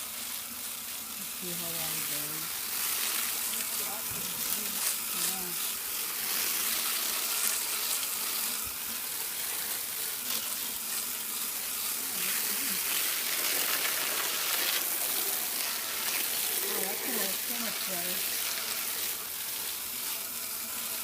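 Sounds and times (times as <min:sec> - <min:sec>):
water spraying from a hose: 0:00.0 - 0:21.0.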